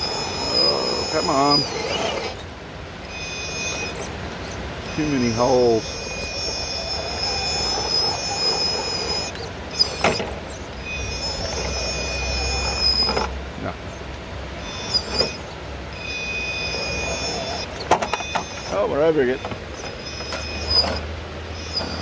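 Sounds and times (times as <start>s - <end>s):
high-pitched electric motor whine: 0.0s - 22.0s.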